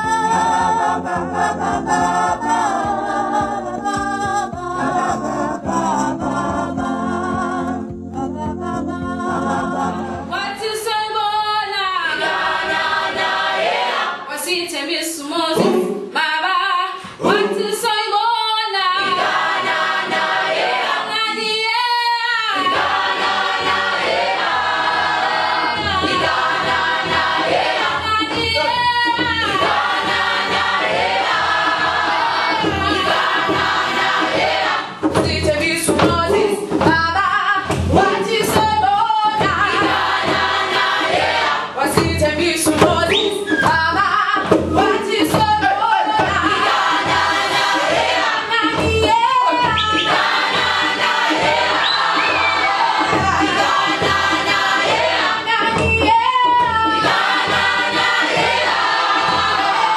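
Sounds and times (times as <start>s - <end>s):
choir singing unaccompanied: 0.0s - 15.9s, 17.2s - 59.9s.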